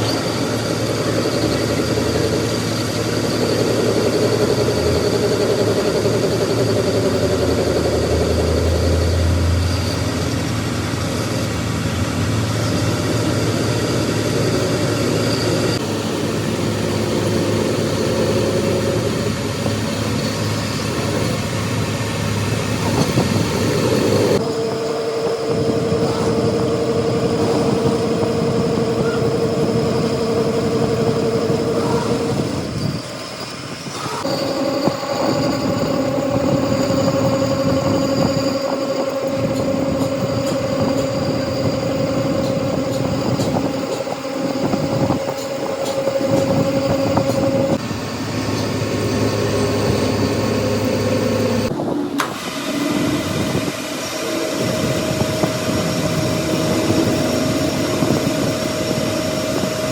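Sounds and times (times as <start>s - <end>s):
machinery running: 0.0s - 59.9s
steady humming tone: 0.0s - 59.9s.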